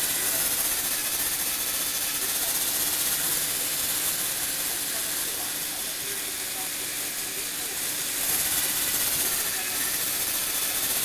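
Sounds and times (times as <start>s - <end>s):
electric motor whirring: 0.0s - 11.0s.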